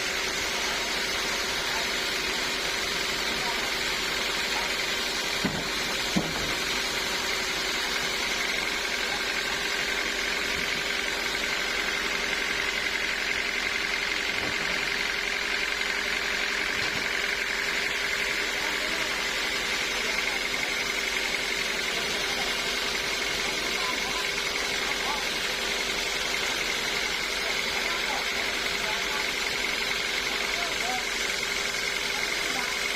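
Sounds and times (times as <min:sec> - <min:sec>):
high machine whine: 0:00.0 - 0:32.9
sawmill machinery hum: 0:00.0 - 0:32.9.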